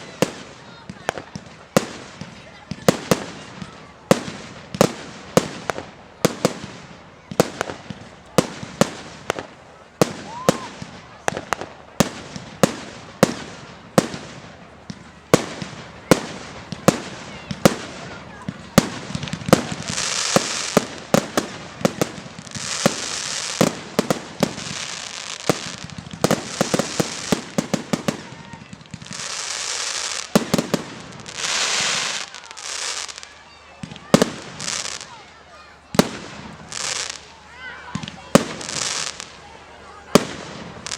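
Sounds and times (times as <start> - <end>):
fireworks bangs: 0.0 - 40.9
fireworks hissing: 0.0 - 40.9.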